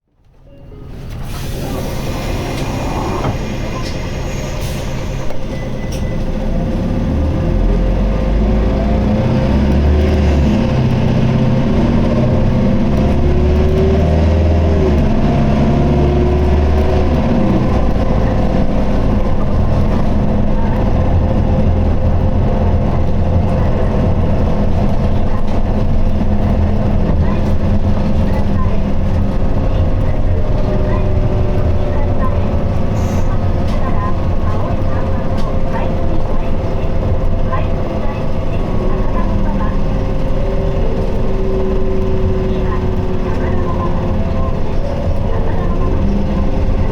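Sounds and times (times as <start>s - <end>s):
bus diesel engine revving: 0.8s - 46.9s.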